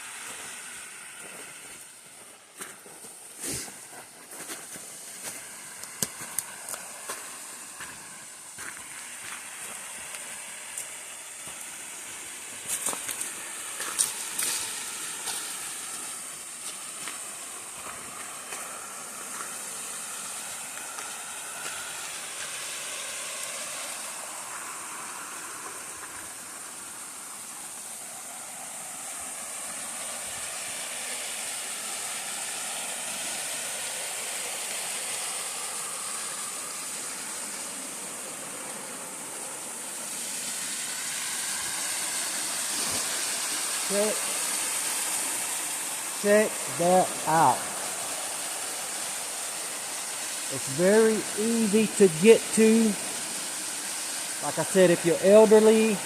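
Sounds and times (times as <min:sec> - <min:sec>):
waterfall rushing: 0:05.2 - 0:56.0.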